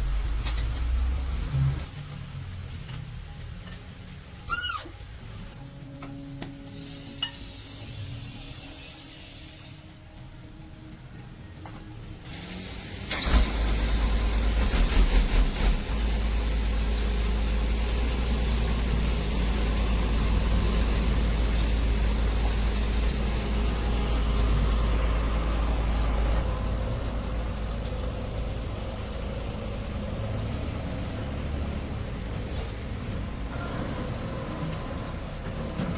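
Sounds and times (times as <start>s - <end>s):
truck engine starting and rumbling: 0.0s - 3.6s, 10.0s - 35.9s.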